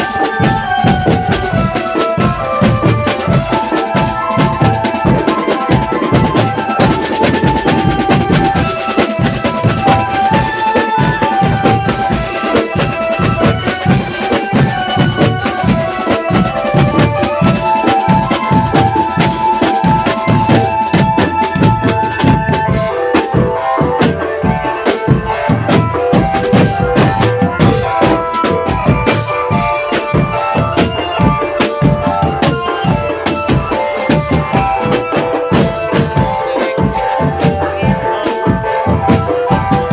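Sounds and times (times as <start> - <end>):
marching drum band playing: 0.0 - 39.9.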